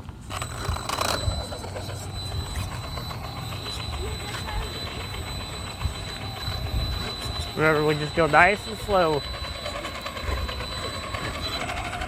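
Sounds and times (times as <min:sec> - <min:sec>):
electric motor whine: 0:00.3 - 0:12.0.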